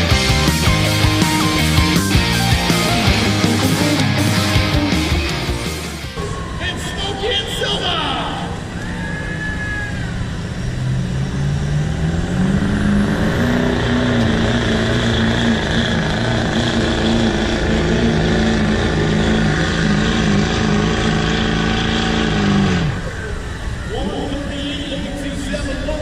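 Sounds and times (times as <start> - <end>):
diesel engine revving under load: 0.0 - 25.9.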